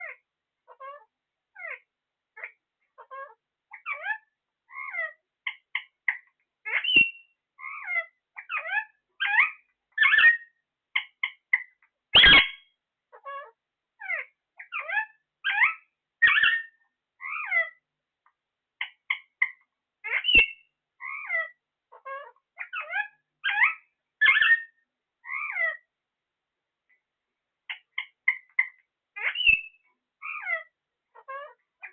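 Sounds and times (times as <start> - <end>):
parrot calling: 0.0 - 17.8, 18.8 - 25.9, 27.6 - 31.9.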